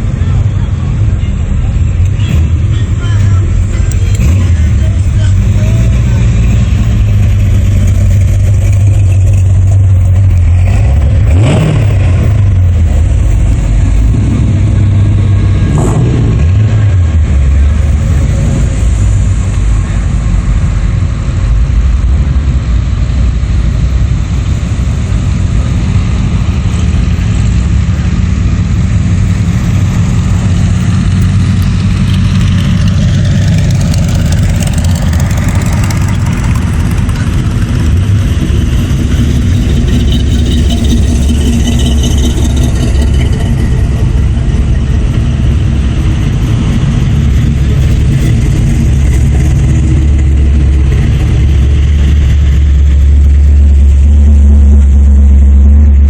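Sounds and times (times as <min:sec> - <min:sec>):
car engines idling loudly: 0:00.0 - 0:56.0
vehicle engine revving: 0:00.0 - 0:56.0.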